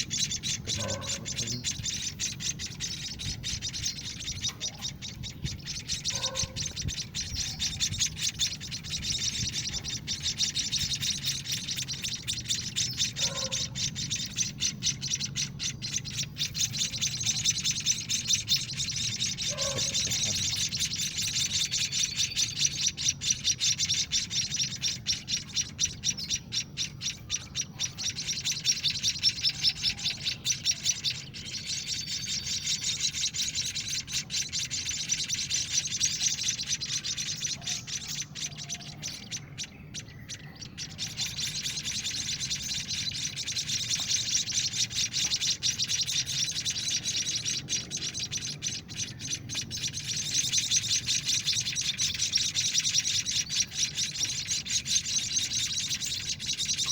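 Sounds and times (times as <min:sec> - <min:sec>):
chicks begging chirps: 0:00.0 - 0:56.9.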